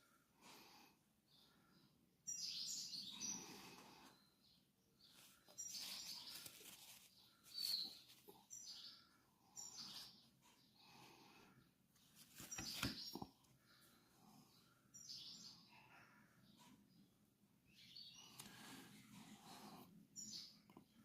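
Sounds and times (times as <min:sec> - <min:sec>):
songbird chirping softly: 0:01.2 - 0:18.9, 0:20.1 - 0:21.0.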